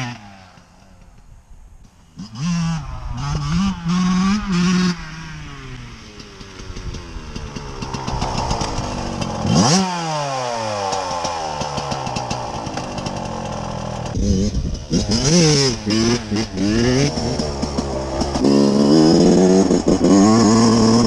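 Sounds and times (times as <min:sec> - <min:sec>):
dirt bike engine revving: 0:00.0 - 0:01.2, 0:01.8 - 0:21.0.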